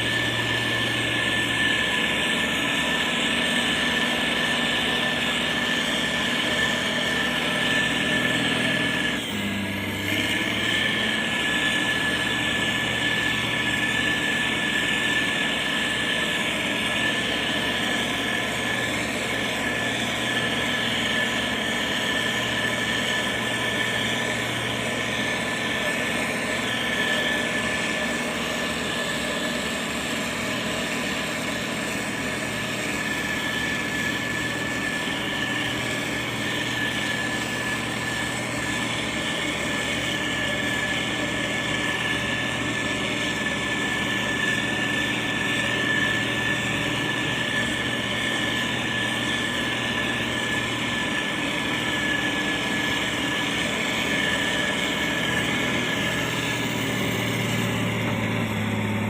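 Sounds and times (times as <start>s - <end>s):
constant high-pitched tone: 0.0s - 59.0s
diesel engine running: 0.0s - 59.0s.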